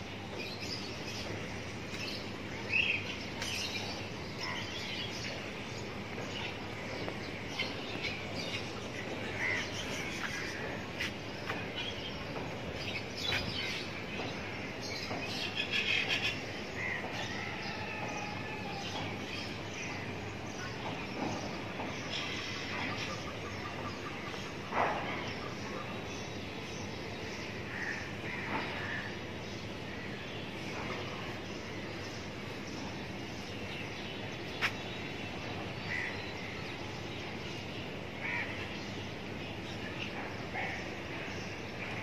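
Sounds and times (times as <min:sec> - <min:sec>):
birds chirping: 0:00.0 - 0:42.0
outdoor background hiss: 0:00.0 - 0:42.0.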